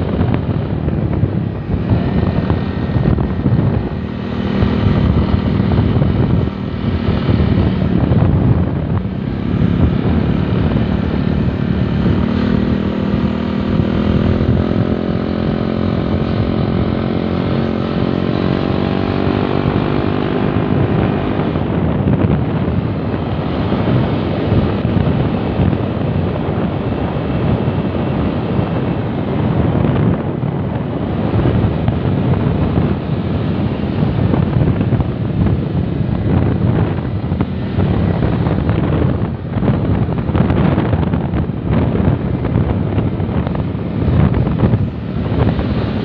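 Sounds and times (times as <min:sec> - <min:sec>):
motorcycle engine tone: 0:00.0 - 0:28.5, 0:29.8 - 0:46.0
wind buffeting microphone: 0:00.0 - 0:46.0.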